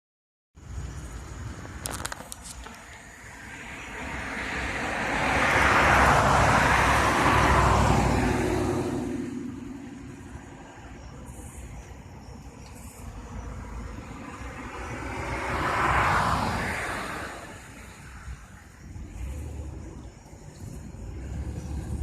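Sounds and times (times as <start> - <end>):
car passing by: 2.6 - 11.6, 12.6 - 22.0.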